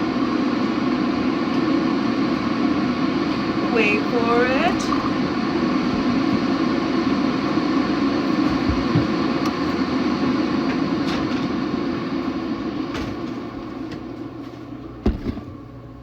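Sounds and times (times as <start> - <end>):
coffee maker rumbling: 0.0 - 16.0.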